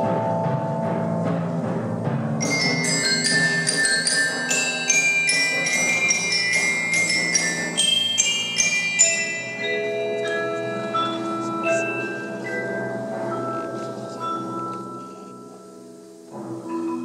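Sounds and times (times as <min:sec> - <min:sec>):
bell-like mallet notes: 0:02.4 - 0:17.0.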